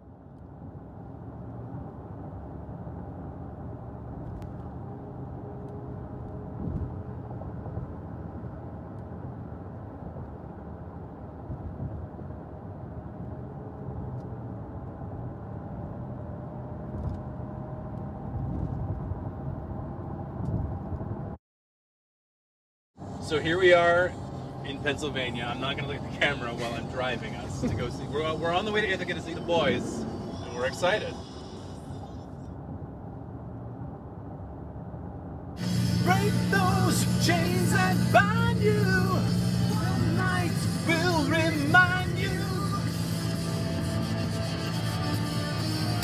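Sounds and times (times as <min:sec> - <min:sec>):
car cabin road and engine noise: 0:00.0 - 0:21.4, 0:23.0 - 0:46.0.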